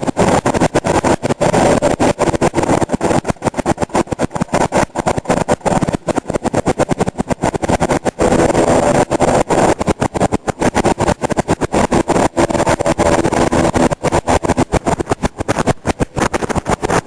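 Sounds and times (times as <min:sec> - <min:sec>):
helicopter rotor chopping: 0:00.0 - 0:17.0.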